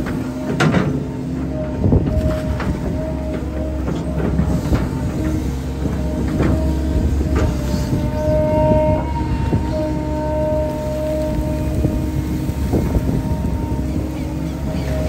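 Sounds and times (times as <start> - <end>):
diesel engine under load: 0.0 - 15.0
hydraulic whine: 0.0 - 15.0.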